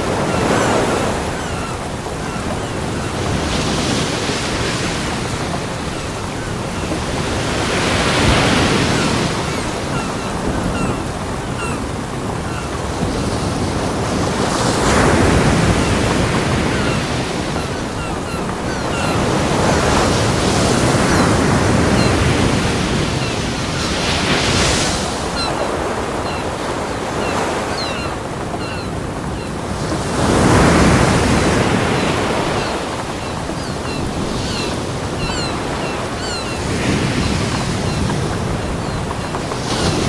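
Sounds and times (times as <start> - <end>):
ocean waves breaking on beach: 0.0 - 40.0.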